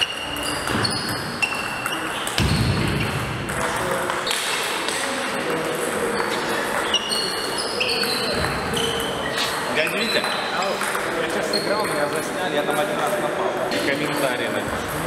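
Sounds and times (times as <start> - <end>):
table tennis ball hits: 0.0 - 7.2, 7.8 - 15.0.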